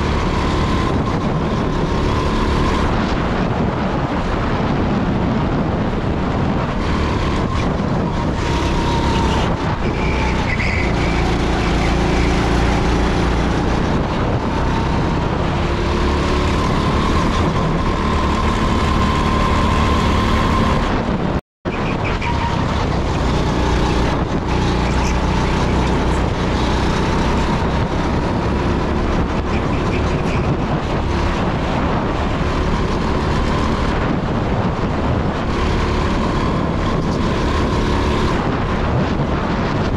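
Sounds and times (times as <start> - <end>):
go-kart engine running: 0.0 - 20.9, 21.7 - 39.9
thin engine whine: 0.0 - 39.9.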